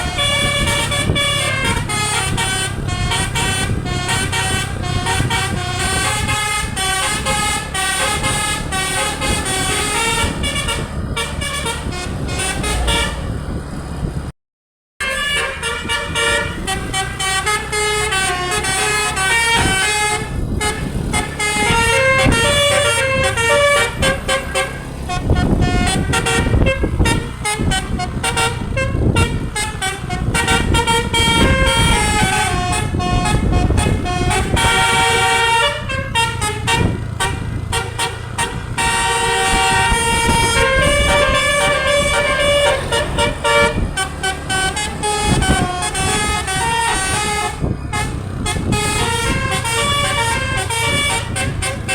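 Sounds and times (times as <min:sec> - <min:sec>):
musical air horn: 0:00.0 - 0:13.5, 0:15.0 - 0:51.9
bus engine rumble: 0:00.0 - 0:14.4, 0:15.0 - 0:51.9.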